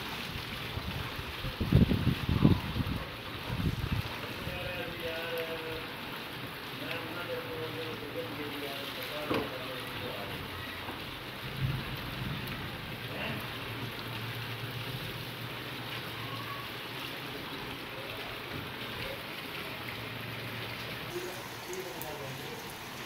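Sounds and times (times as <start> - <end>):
rain on pavement: 0.0 - 23.0.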